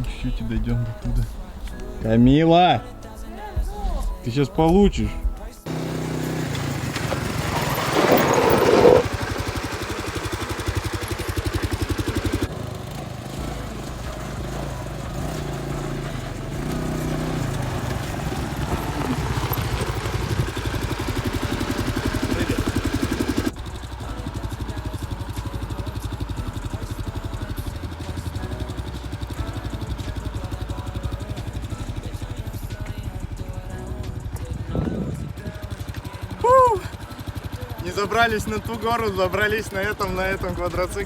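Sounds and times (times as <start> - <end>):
quad bike engine droning: 0.0 - 41.0.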